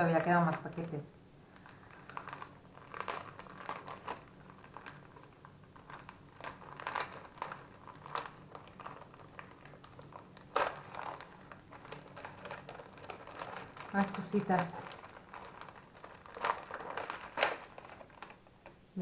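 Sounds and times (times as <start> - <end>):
wrapping paper crinkling and tearing: 0.0 - 19.0.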